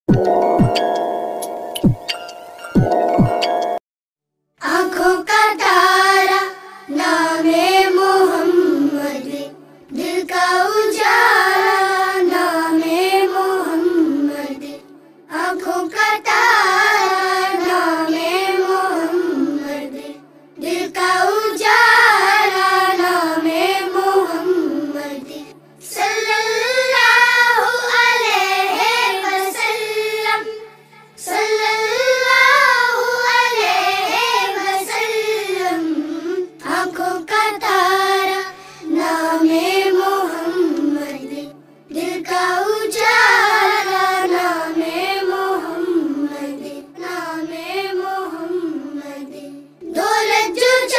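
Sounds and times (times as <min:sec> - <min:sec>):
child singing devotional poem: 0:04.6 - 0:50.9.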